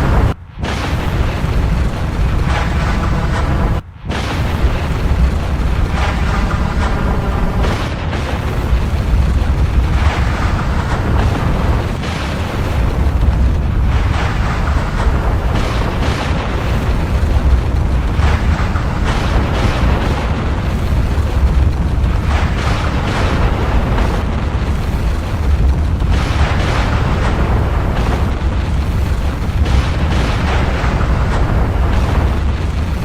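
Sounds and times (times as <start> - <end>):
deep volcanic rumble: 0.0 - 33.0
volcanic blasts: 0.0 - 33.0.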